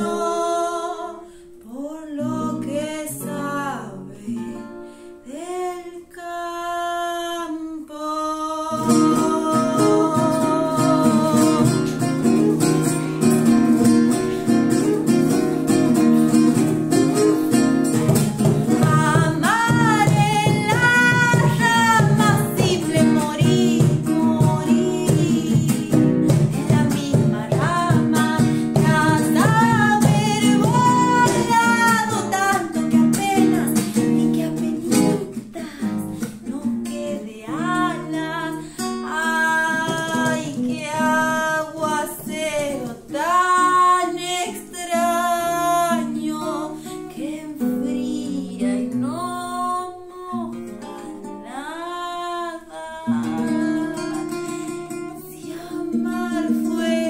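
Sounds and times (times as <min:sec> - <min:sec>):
acoustic guitar strumming: 0:00.0 - 0:07.3, 0:08.3 - 0:57.0
woman singing: 0:00.0 - 0:57.0.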